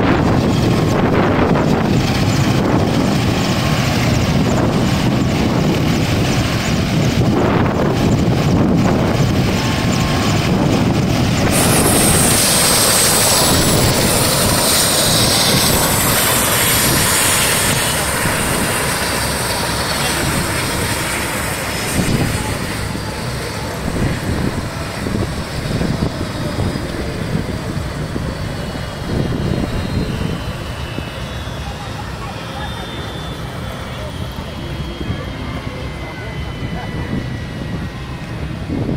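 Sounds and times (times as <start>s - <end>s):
helicopter turbines spooling down: 0.0s - 38.9s.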